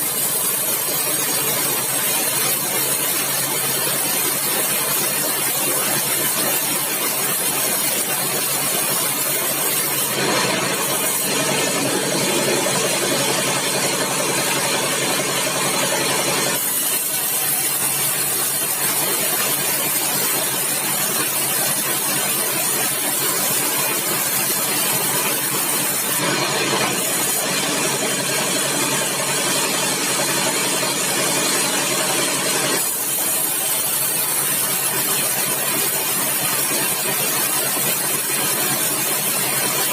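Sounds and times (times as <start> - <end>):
saw cutting through log: 0.0 - 39.9
sawmill engine running: 0.0 - 39.9.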